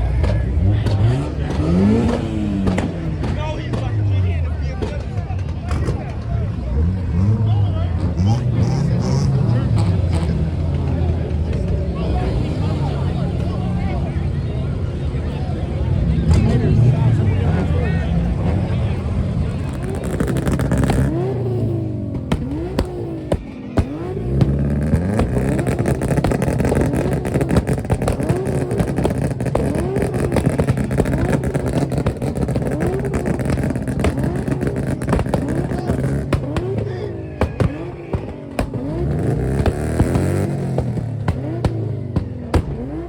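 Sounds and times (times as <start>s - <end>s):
exhaust pops and bangs: 0.0s - 14.3s, 16.1s - 43.0s
car engine revving: 0.0s - 43.0s.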